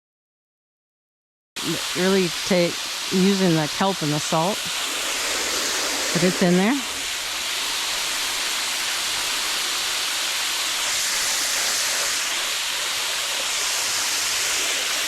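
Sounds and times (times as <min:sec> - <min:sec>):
water running into a trough: 0:01.6 - 0:15.0.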